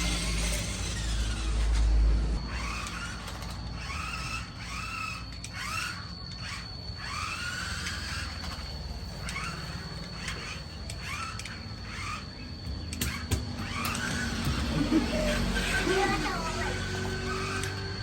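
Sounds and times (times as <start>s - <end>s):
toy car electric motors whining: 0.0s - 18.0s.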